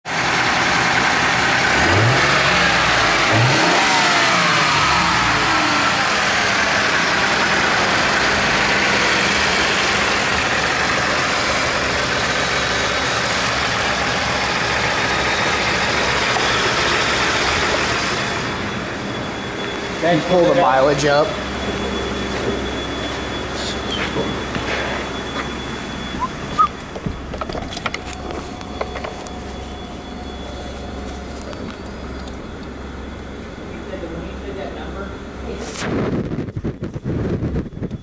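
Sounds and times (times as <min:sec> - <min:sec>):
car engine revving and idling: 0:00.1 - 0:37.3.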